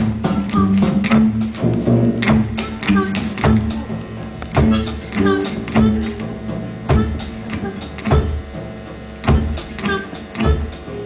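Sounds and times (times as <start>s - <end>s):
live blues band playing: 0.0s - 11.0s.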